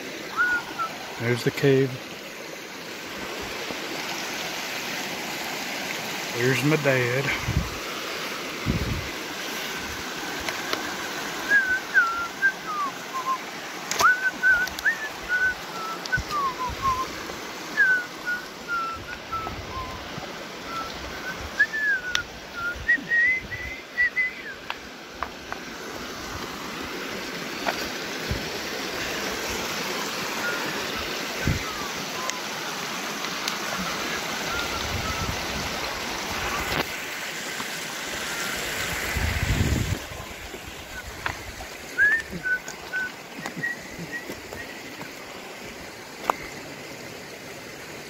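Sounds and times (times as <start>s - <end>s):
creek splashing over rocks: 0.0s - 48.0s.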